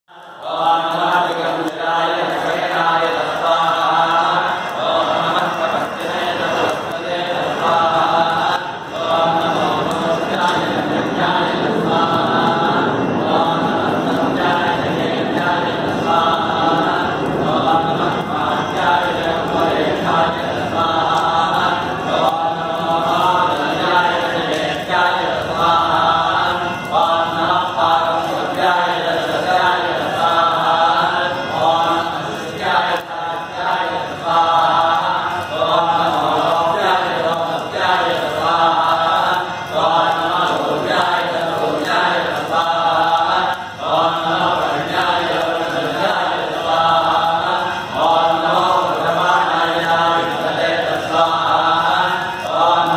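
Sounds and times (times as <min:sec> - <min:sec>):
men chanting: 0:00.1 - 0:52.9.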